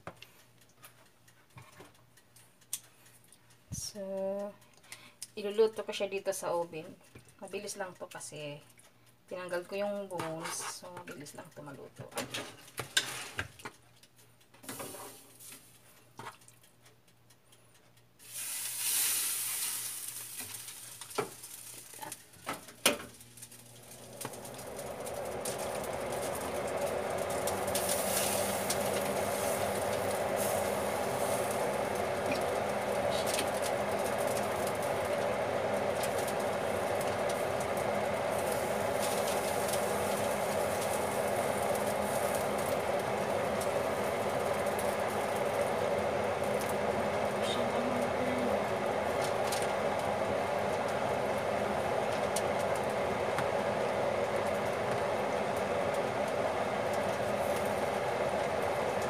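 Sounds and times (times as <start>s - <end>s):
appliance fan whirring: 0.0s - 59.0s.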